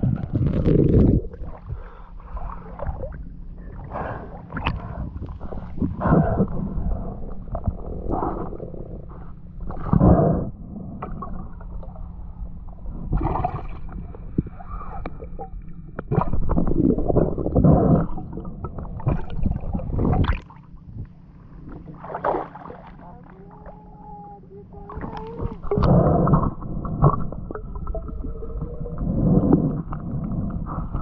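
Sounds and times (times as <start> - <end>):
muffled underwater gurgling: 0.0 - 31.0.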